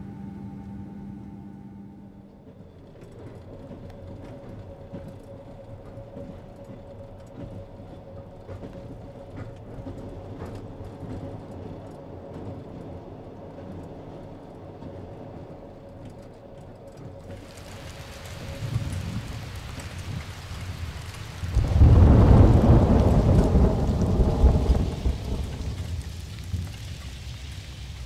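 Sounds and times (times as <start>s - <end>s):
constant hum tone: 0.0s - 28.0s.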